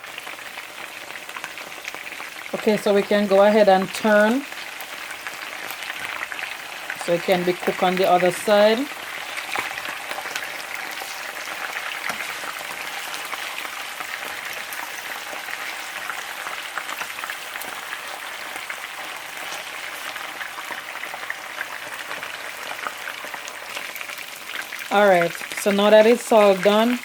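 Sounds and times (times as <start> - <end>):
oil sizzling and spattering: 3.8 - 27.0.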